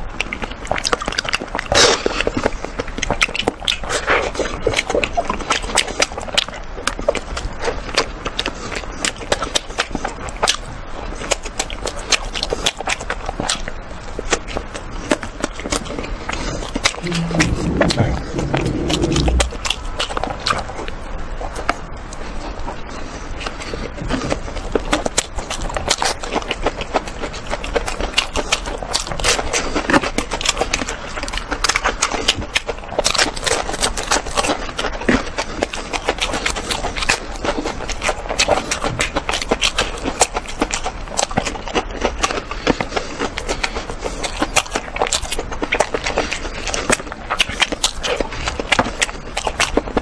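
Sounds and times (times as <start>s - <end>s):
crunchy chewing: 0.0s - 50.0s.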